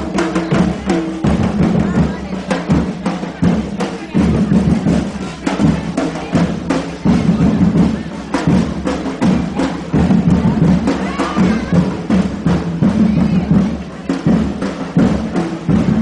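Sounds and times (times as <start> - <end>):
crowd murmur: 0.0 - 16.0
drums beating a steady rhythm: 0.0 - 16.0.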